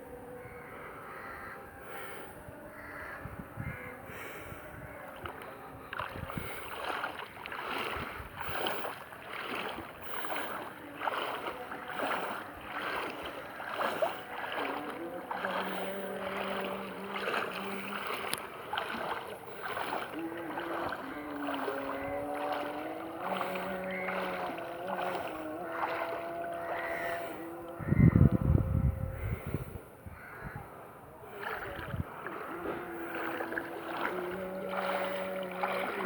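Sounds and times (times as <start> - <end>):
footsteps wading through water: 0.4 - 36.0.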